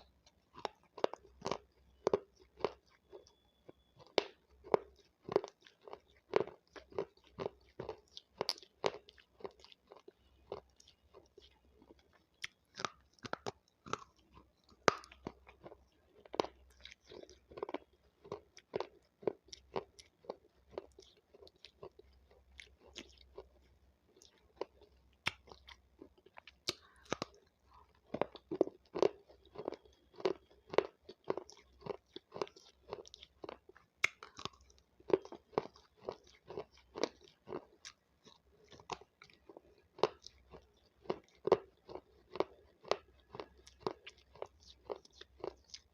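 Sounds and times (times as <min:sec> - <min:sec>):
pepper crunching and chewing: 0:00.0 - 0:45.9.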